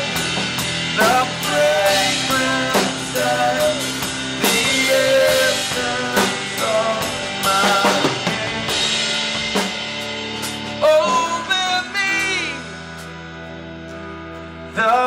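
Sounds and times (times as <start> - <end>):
drum kit hits: 0.0 - 13.0
rock band playing: 0.0 - 15.0.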